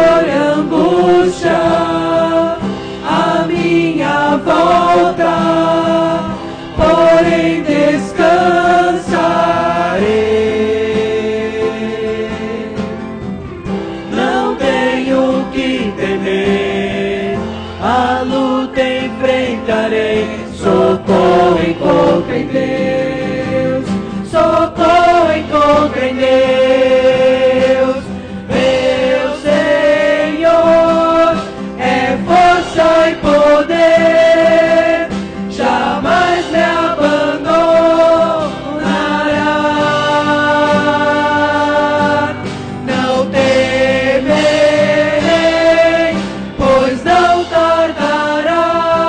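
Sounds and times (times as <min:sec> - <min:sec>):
group singing gospel song: 0:00.0 - 0:49.0
instrumental accompaniment: 0:00.0 - 0:49.0.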